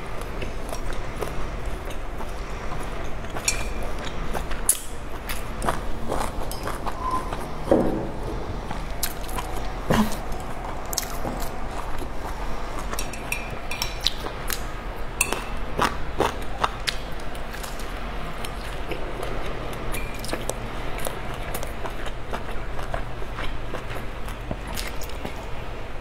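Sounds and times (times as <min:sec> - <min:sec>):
wet chewing and mouth sounds: 0:00.1 - 0:06.9, 0:08.6 - 0:25.6.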